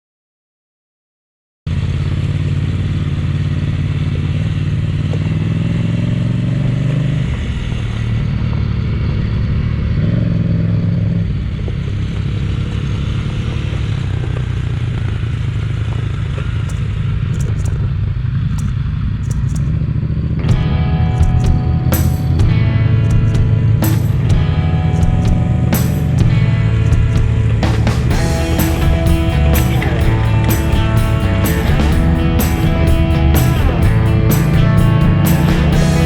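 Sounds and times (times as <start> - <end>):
motorcycle engine revving: 1.7 - 36.0.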